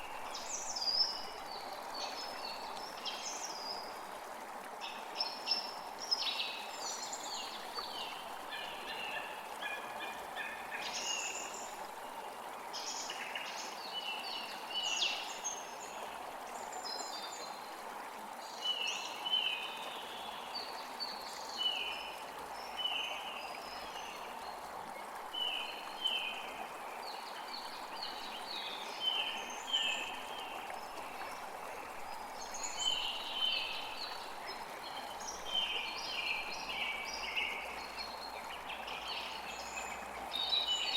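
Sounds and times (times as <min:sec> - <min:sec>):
creek flowing: 0:00.0 - 0:40.9.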